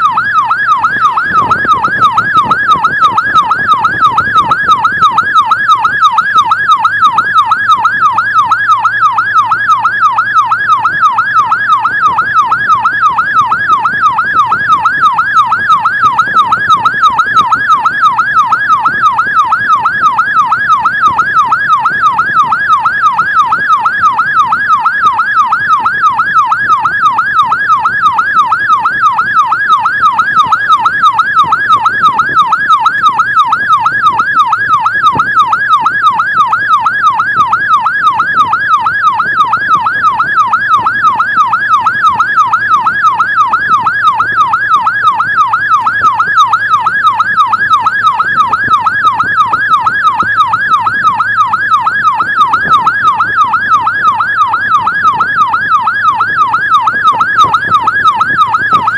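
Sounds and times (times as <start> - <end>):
emergency siren yelping: 0.0 - 58.9.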